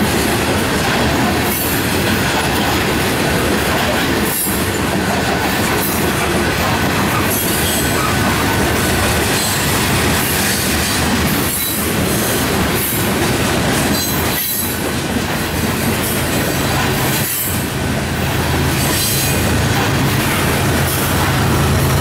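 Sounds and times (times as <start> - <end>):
diesel locomotive hum: 0.0 - 22.0
freight train wheels on rails: 0.0 - 22.0.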